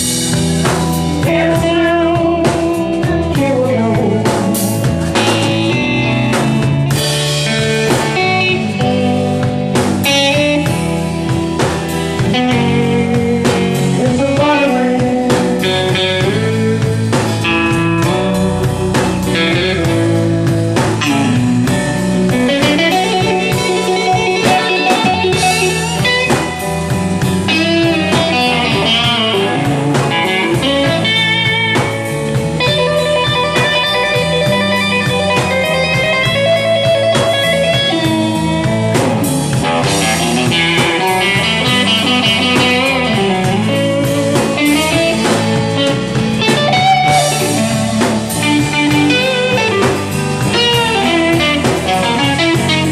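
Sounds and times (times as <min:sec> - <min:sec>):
blues band playing: 0:00.0 - 0:52.9
electric guitar lines: 0:00.0 - 0:52.9.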